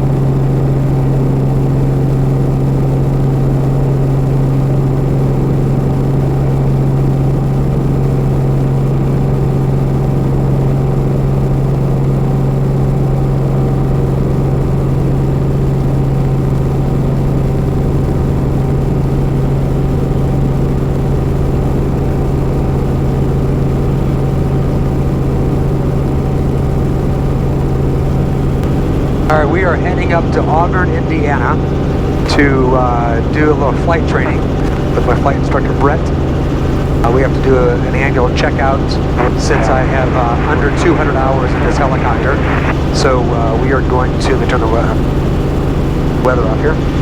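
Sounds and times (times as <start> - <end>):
helicopter drone: 0.0 - 47.0.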